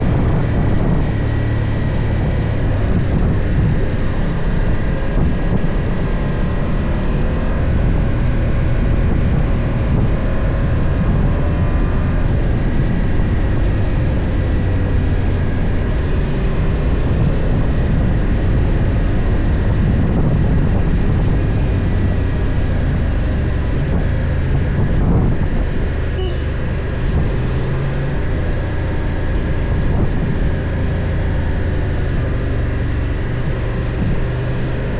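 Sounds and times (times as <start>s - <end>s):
motorcycle engine running: 0.0s - 34.9s
wind and road rumble: 0.0s - 34.9s.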